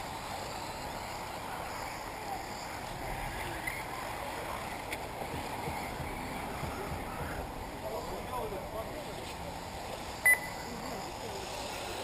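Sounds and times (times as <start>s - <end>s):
faint whines of rc cars: 0.0s - 12.0s.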